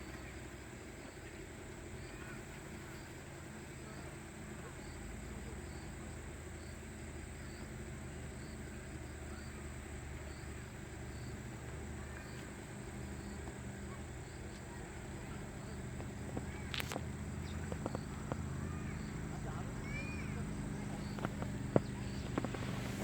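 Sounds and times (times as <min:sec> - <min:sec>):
faint insect chirp: 0:00.0 - 0:23.0
insect chorus buzzing: 0:00.0 - 0:23.0
low background hum: 0:00.0 - 0:23.0.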